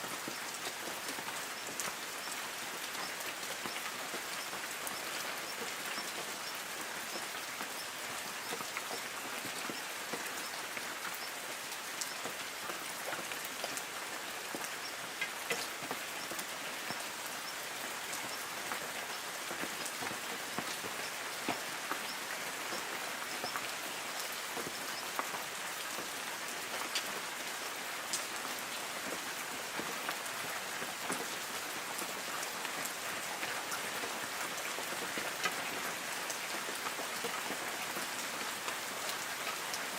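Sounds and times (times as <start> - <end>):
light rain on foliage: 0.0 - 39.9
raindrops ticking on leaves: 0.0 - 39.9.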